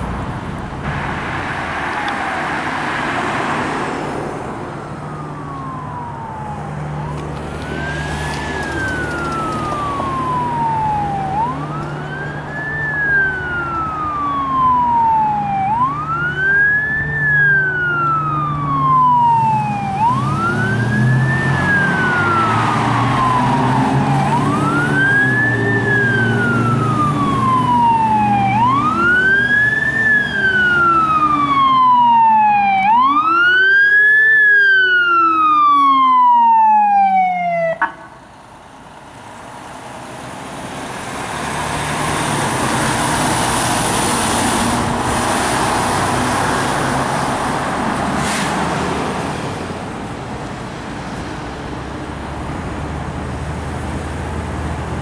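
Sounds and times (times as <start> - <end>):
fire engine siren wailing: 0.8 - 50.9.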